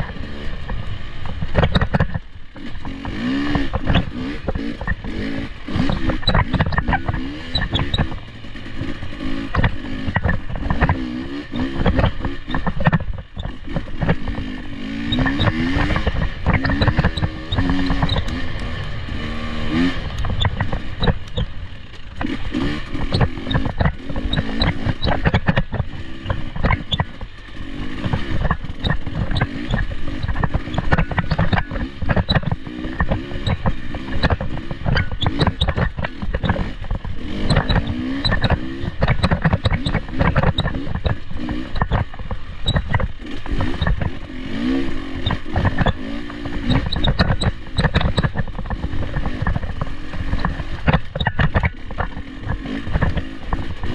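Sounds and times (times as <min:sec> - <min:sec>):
off-road vehicle engine revving: 0:00.0 - 0:53.9
sharp knocks and clatters: 0:00.0 - 0:53.9.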